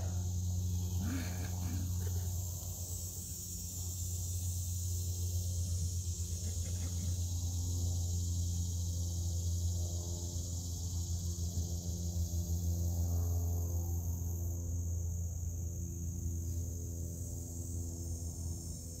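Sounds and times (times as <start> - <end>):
insects chirring: 0.0 - 19.0
low electrical hum: 0.0 - 19.0.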